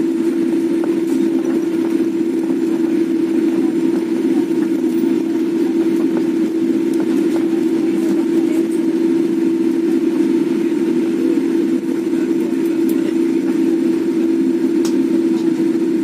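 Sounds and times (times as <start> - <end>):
jet engines droning in cabin: 0.0 - 16.0.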